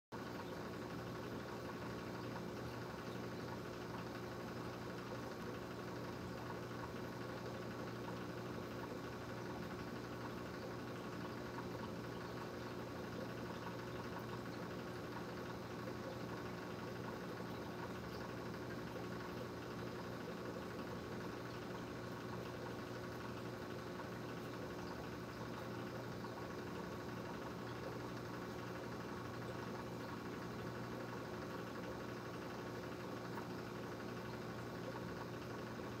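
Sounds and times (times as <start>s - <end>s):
aquarium pump electric hum: 0.2s - 36.0s.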